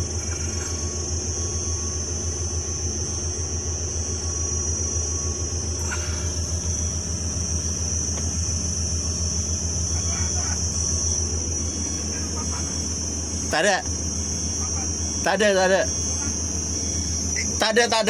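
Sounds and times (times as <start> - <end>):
diesel engine rumbling: 0.0 - 1.6, 5.0 - 18.0.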